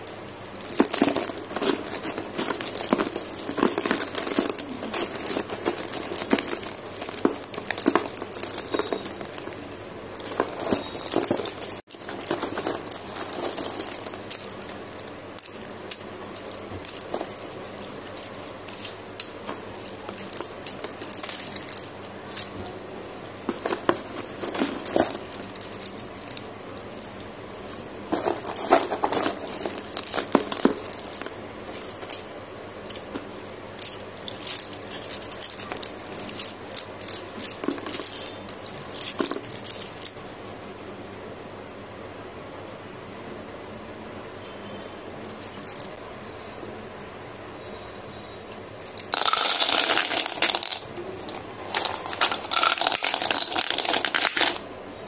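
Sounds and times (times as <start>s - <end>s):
pencils clicking and clattering: 0.0s - 22.7s, 23.4s - 40.2s, 45.2s - 46.0s, 48.5s - 54.7s.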